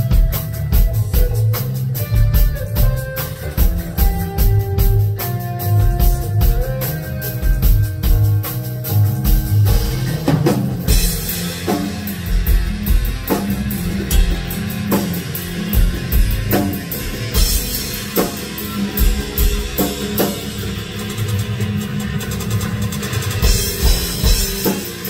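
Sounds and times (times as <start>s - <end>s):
progressive rock band playing: 0.0s - 25.0s
rapid cymbal strokes: 3.2s - 25.0s.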